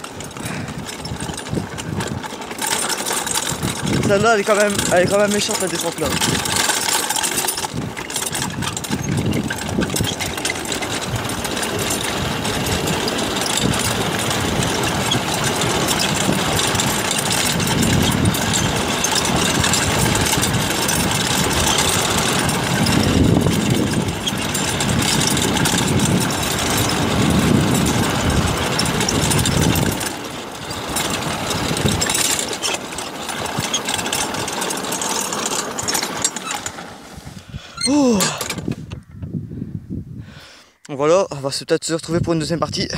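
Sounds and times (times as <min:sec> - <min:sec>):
go-kart wheels rattling on gravel: 0:00.0 - 0:39.1, 0:41.0 - 0:42.9.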